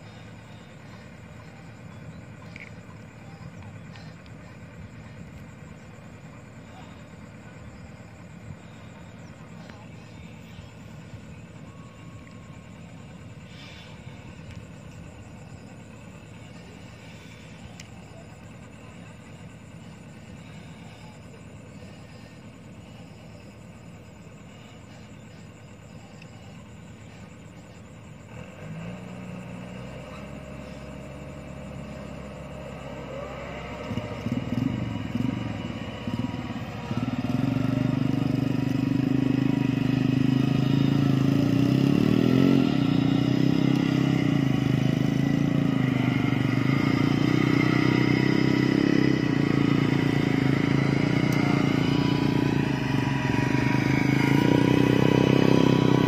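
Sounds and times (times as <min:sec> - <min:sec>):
combine harvester engine: 0:00.0 - 0:56.0.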